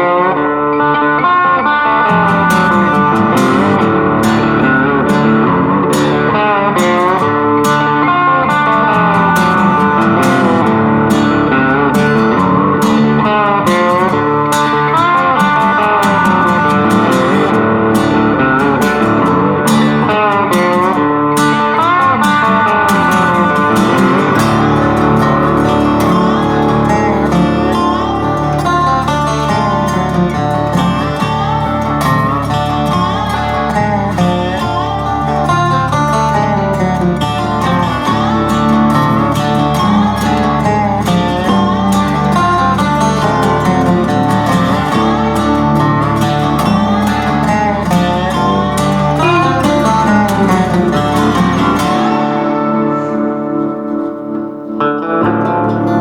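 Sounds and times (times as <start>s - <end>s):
electric guitar instrumental music: 0.0s - 56.0s.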